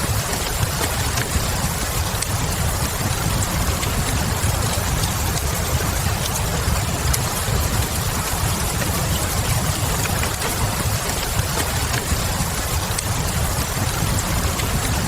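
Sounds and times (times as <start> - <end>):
burning logs popping: 0.0 - 15.0
fireplace crackle: 0.0 - 15.0
rain falling: 0.0 - 15.0.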